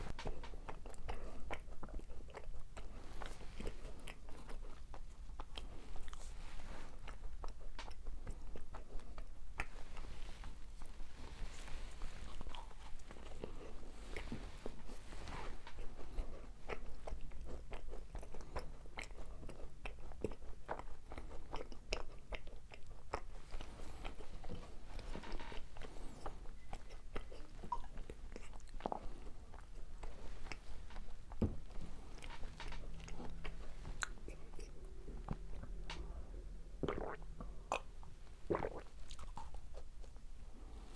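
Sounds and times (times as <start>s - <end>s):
crunching and chewing macarons: 0.1s - 37.9s, 38.5s - 40.3s.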